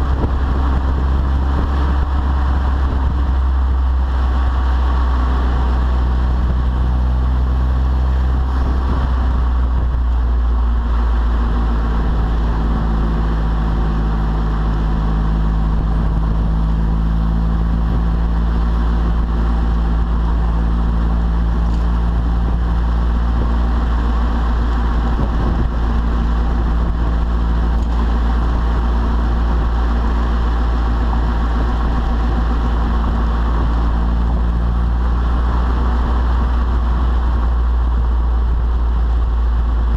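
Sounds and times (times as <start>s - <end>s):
car exhaust rumbling: 0.0s - 39.9s.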